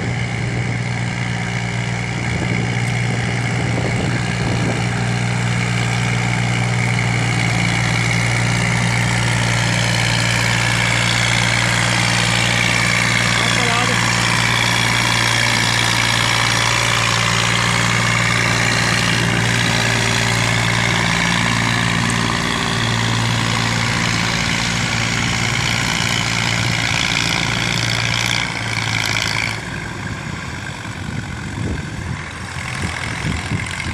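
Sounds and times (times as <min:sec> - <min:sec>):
tractor diesel engine under load: 0:00.0 - 0:33.9.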